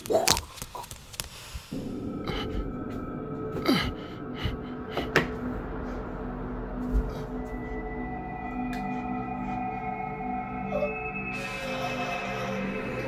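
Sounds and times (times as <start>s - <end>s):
droning chord: 1.8s - 13.0s.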